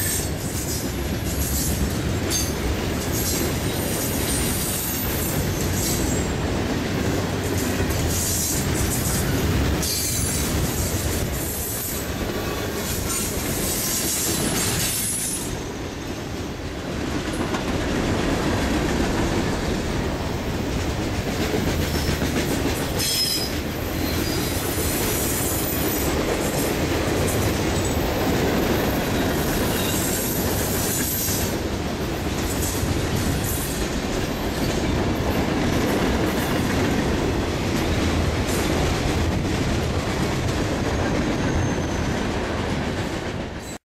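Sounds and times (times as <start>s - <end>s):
freight train cars rumbling: 0.0s - 43.8s.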